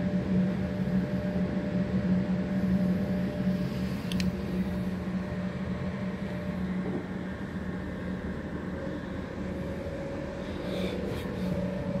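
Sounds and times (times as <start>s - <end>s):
train running hum and rumble: 0.0s - 12.0s.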